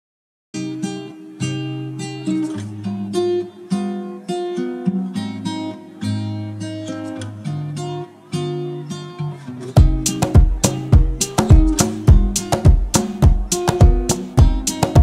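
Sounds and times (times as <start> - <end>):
guitar plucking a melody: 0.6 - 15.0.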